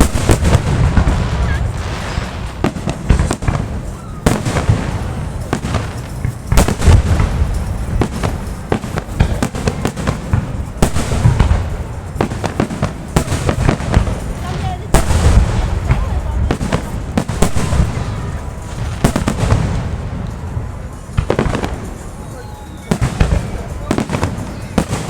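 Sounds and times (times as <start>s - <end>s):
low rumble of booms: 0.0s - 22.1s
fireworks bangs and crackles: 0.0s - 25.0s.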